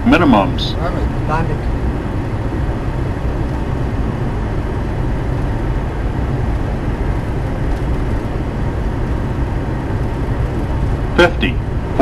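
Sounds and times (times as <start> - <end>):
simulated engine and airflow rumble: 0.0 - 12.0.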